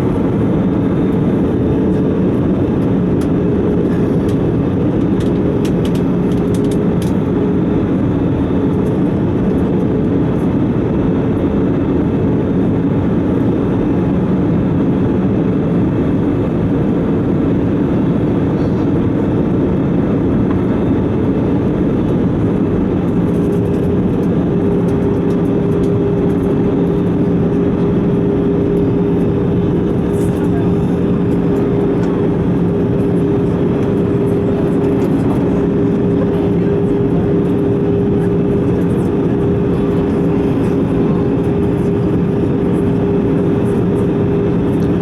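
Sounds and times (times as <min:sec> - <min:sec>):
jet engines and airflow rushing: 0:00.0 - 0:45.0
low cabin hums: 0:00.0 - 0:45.0.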